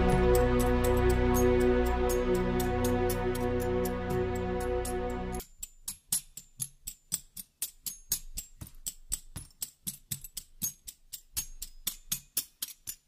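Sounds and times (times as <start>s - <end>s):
light percussion music: 0.0s - 13.0s.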